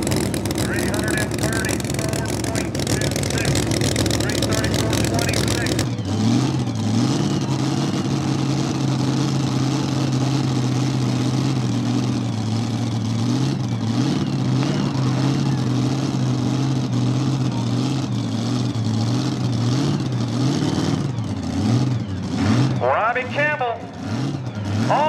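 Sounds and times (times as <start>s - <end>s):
engine loud idle: 0.0s - 25.0s.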